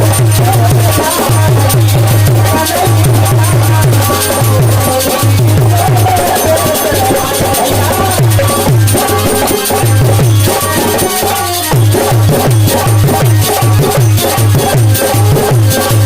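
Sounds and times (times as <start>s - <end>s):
hand drum bass strokes: 0.0s - 16.0s
shaken jingling percussion: 0.0s - 16.0s.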